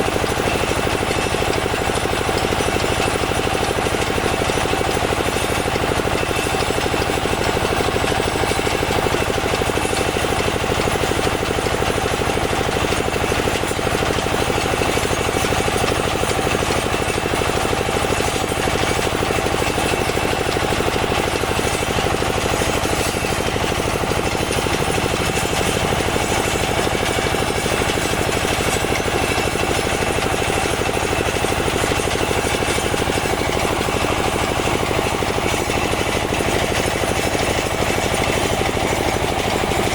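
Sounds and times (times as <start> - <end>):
drill machine hammering rattle: 0.0 - 39.9.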